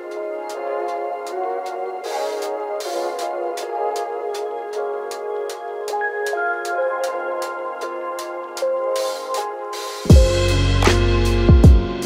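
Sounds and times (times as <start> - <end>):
light electronic melody: 0.0 - 12.0.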